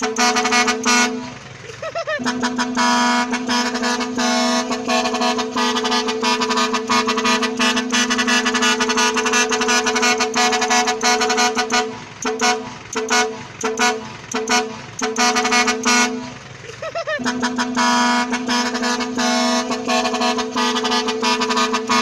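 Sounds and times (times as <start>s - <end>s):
truck air horns: 0.0s - 22.0s.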